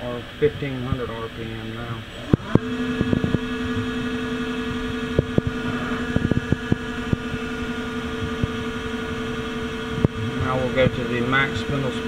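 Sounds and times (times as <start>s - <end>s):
lathe spindle humming: 0.3s - 12.0s
high whine: 1.7s - 12.0s.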